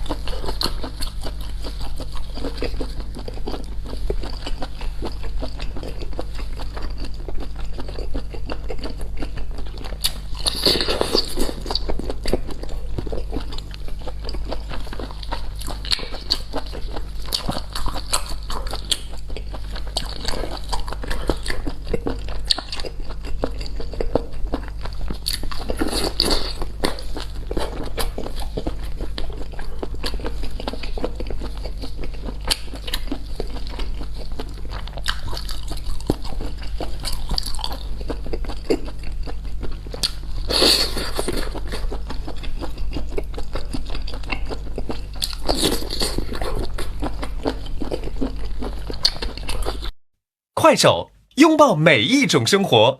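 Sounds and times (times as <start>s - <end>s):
person chewing and crunching: 0.0s - 49.9s.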